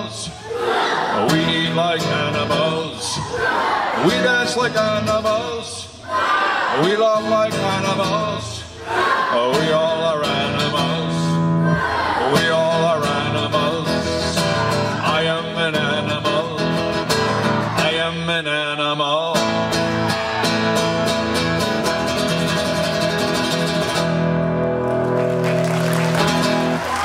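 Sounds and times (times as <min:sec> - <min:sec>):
person singing folk song: 0:00.0 - 0:06.1, 0:06.7 - 0:24.2
acoustic guitar strumming: 0:01.2 - 0:03.3, 0:04.0 - 0:05.8, 0:06.8 - 0:08.7, 0:09.4 - 0:26.8.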